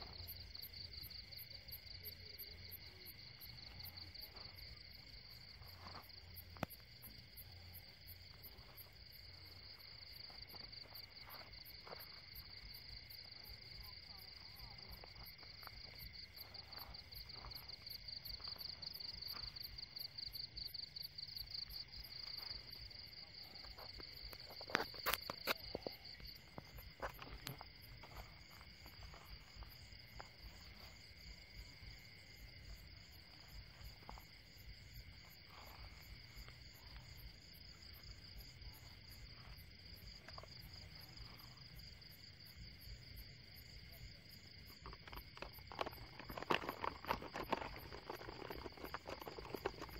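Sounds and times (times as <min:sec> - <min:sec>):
crickets trilling: 0:00.0 - 0:49.9.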